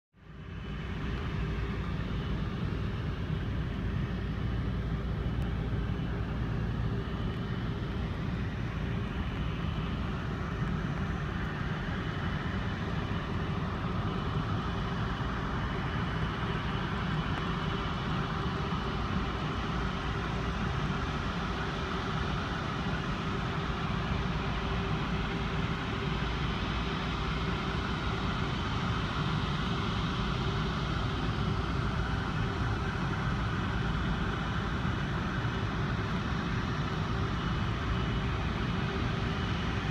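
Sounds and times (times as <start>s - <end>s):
distant jet engine rumble: 0.2s - 39.9s
faint high jet whine: 0.2s - 39.9s.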